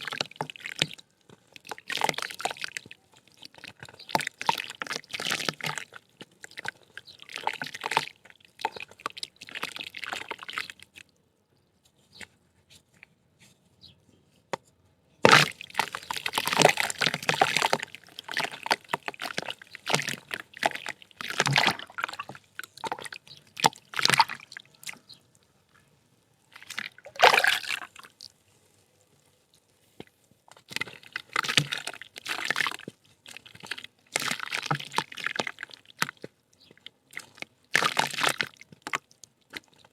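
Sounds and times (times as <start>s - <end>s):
water sloshing and dripping: 0.0s - 11.1s, 15.2s - 39.9s
wet mud crumbling in water: 0.0s - 11.1s, 15.2s - 25.2s, 26.5s - 28.5s, 29.2s - 39.9s.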